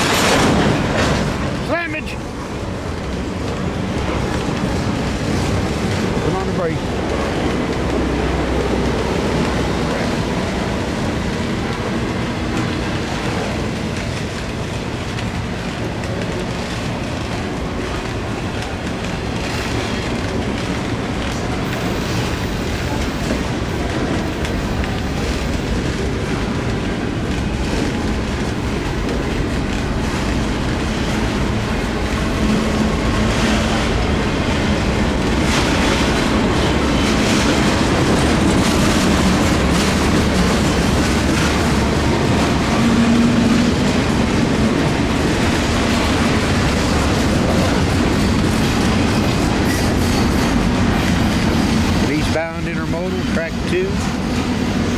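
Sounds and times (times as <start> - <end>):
freight train cars rumbling: 0.0 - 54.9
wheels clacking over rail joints: 0.0 - 54.9.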